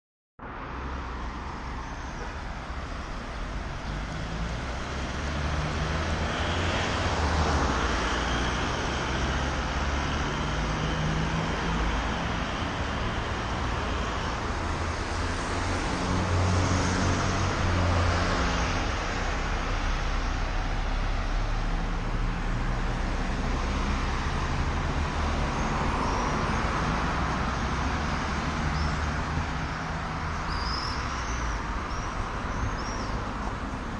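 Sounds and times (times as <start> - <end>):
cars passing: 0.4 - 33.9
steady traffic hum: 0.4 - 33.9.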